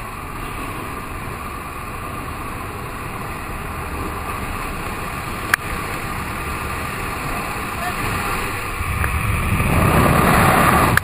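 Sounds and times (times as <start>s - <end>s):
plane engine and propeller drone: 0.0s - 11.0s.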